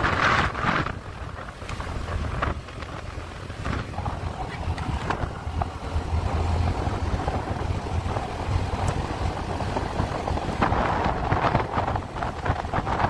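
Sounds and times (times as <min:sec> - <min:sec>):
vehicle rumble on road: 0:00.0 - 0:13.0
wind buffeting microphone: 0:00.0 - 0:13.0.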